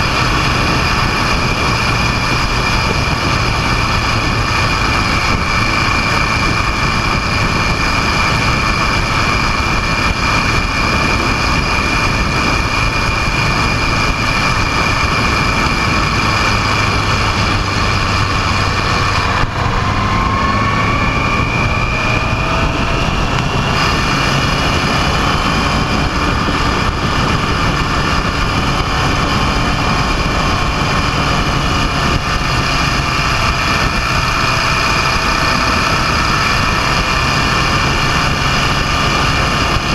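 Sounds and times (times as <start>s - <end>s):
faint rising pitch glides: 0.0s - 39.9s
motorcycle engine running: 0.0s - 39.9s
rushing wind noise: 0.0s - 39.9s.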